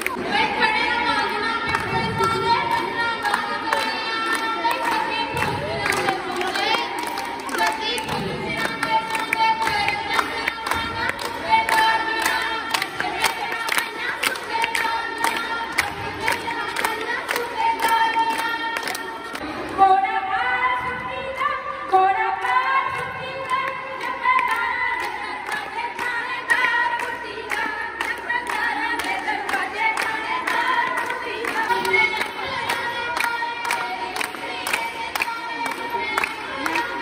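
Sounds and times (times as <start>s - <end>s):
rhythmic clapping: 0.0s - 37.0s
woman singing through speaker: 0.0s - 37.0s
women singing along: 0.0s - 37.0s.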